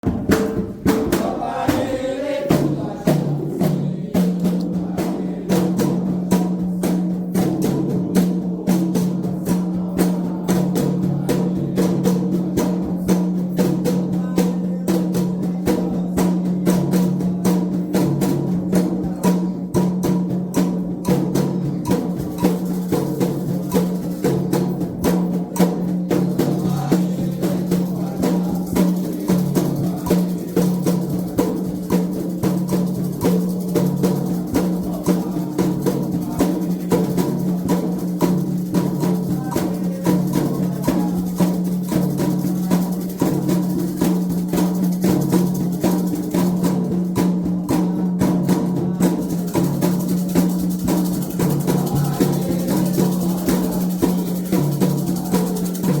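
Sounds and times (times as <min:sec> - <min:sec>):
hand drums in fast rhythm: 0:00.0 - 0:56.0.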